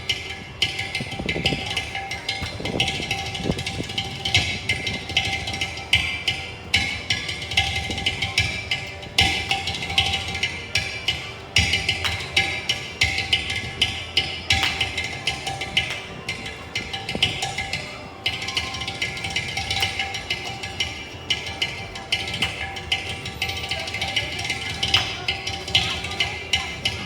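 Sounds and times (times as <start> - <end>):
percussion-driven background music: 0.0 - 27.0.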